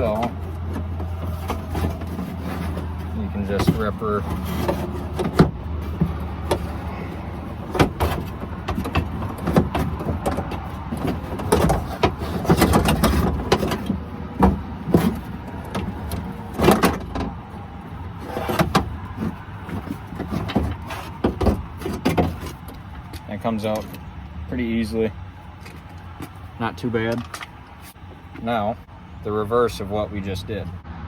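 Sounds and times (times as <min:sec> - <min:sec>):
metal clanks and scrapes: 0:00.0 - 0:24.2, 0:25.4 - 0:28.6.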